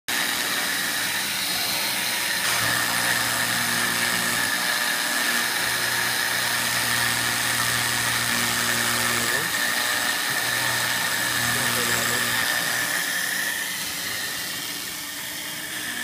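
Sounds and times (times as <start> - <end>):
mill spindle high whine: 0.1 - 16.0.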